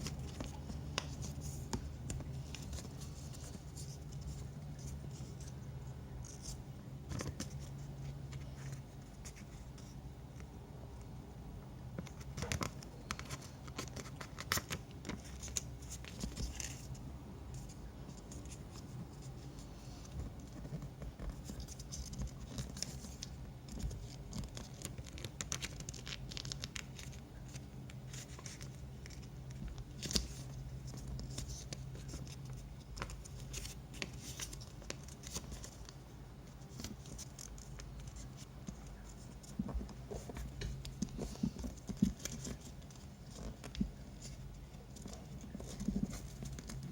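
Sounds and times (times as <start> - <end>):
paper rustling and crinkling: 0.0 - 5.6, 12.2 - 46.9
low steady hum: 0.0 - 46.9.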